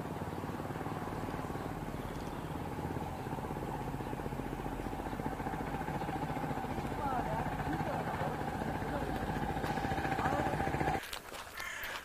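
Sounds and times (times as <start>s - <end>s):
diesel engine throbbing: 0.0s - 11.0s.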